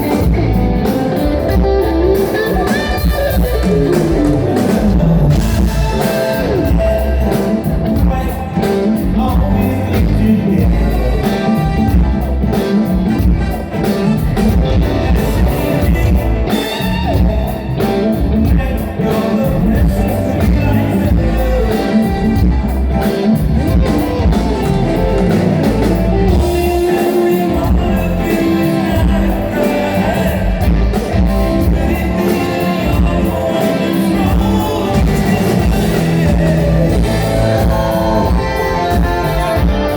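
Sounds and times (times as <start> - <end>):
bass: 0.0 - 39.9
drums: 0.0 - 39.9
electric guitar: 0.0 - 39.9
lead vocals: 0.0 - 39.9.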